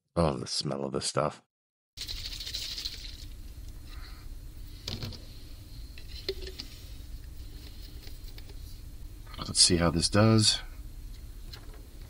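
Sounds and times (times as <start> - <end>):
steady low hum: 2.0 - 12.0.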